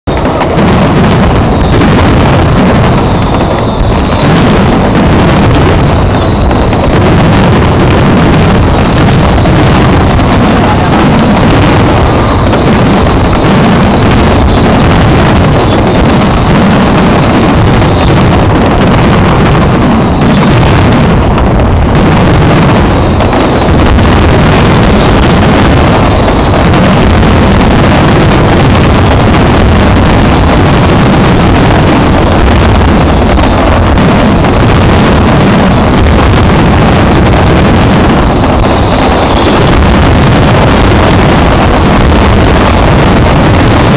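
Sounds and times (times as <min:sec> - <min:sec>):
firework shells bursting: 0:00.1 - 0:43.9.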